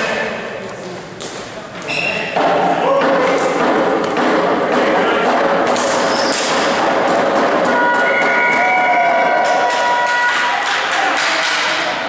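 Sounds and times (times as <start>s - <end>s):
many voices shouting and talking: 0.0s - 12.0s.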